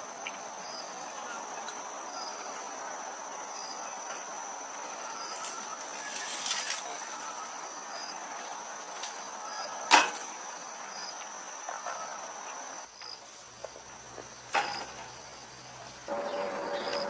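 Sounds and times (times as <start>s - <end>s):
high-pitched insect trill: 0.1s - 13.3s, 13.9s - 17.0s.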